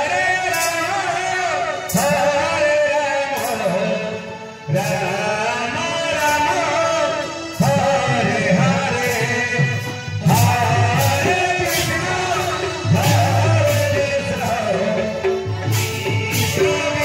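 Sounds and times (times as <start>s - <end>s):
voices singing a chant: 0.0s - 17.0s.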